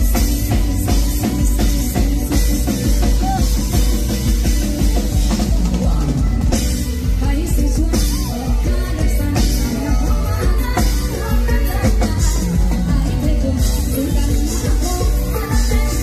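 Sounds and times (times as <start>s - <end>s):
woman singing into microphone: 0.0s - 4.0s, 5.6s - 16.0s
drum kit and bass beat: 0.0s - 16.0s.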